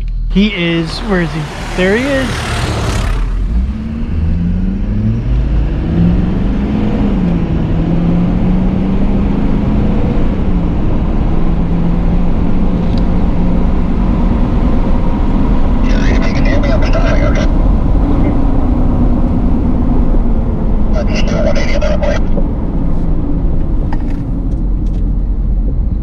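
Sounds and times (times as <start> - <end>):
pickup truck engine accelerating: 0.0 - 26.0.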